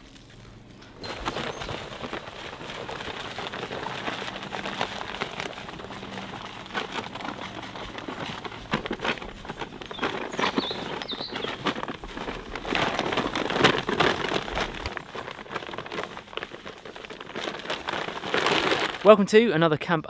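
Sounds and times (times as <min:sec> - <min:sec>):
sawdust pouring with rustling hiss: 0:00.0 - 0:19.2.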